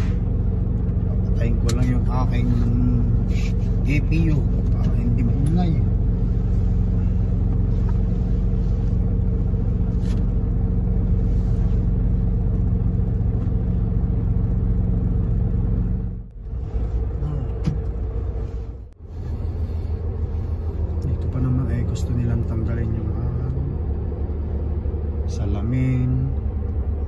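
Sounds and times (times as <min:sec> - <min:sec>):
power unit low drone: 0:00.0 - 0:27.0
truck engine idling rumble: 0:00.0 - 0:27.0.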